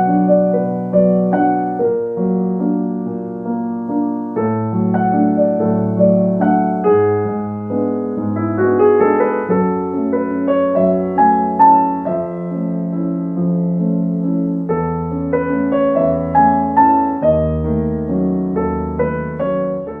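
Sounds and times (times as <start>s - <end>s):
gentle solo piano piece: 0.0s - 20.0s.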